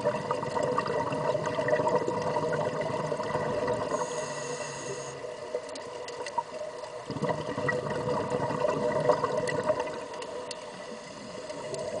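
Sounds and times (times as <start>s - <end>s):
underwater air bubbling: 0.0s - 12.0s.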